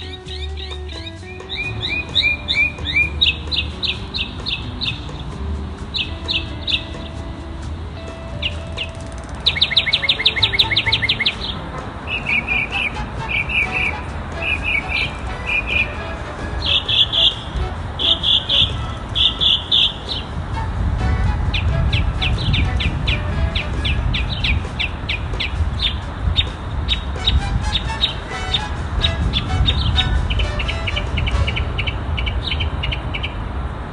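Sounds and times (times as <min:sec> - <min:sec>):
mockingbird singing: 0:00.0 - 0:07.2, 0:08.3 - 0:33.4.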